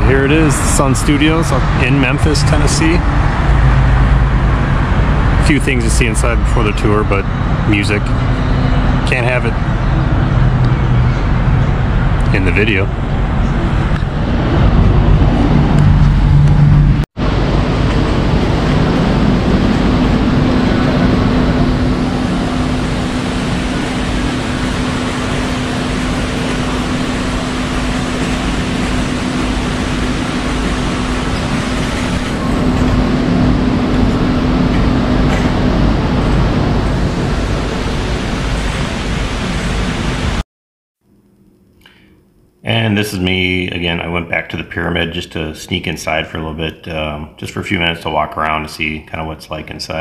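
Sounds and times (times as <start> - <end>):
car engine hum: 0.0 - 40.3
tyre and road noise: 0.0 - 40.4.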